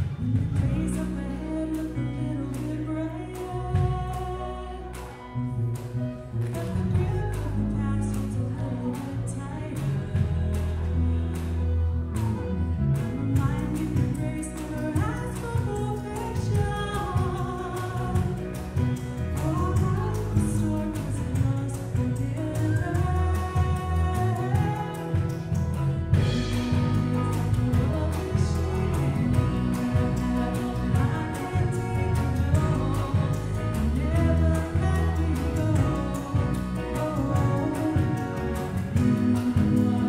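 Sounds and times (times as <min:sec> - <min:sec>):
electric bass: 0:00.0 - 0:40.0
electric guitar: 0:00.0 - 0:40.0
woman singing: 0:00.0 - 0:40.0.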